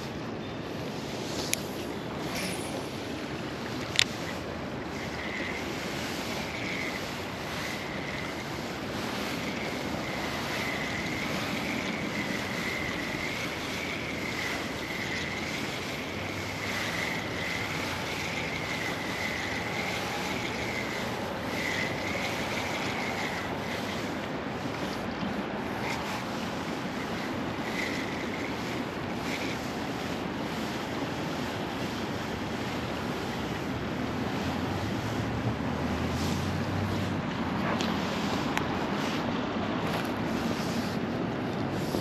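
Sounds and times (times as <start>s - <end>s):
wind buffeting microphone: 0.0s - 42.0s
river water rushing: 2.2s - 42.0s.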